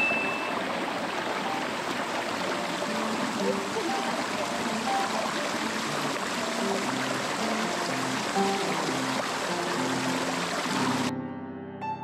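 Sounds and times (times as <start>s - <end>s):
stream rushing over rocks: 0.0s - 11.1s
soft background music: 1.4s - 11.2s.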